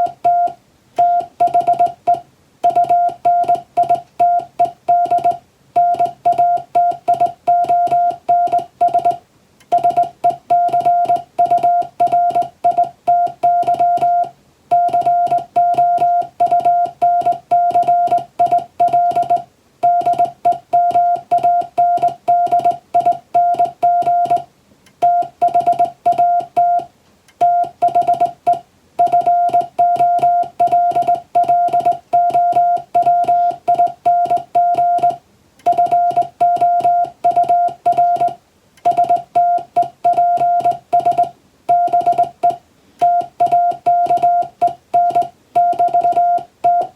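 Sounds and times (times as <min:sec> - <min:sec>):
morse code beeps: 0:00.0 - 0:46.9.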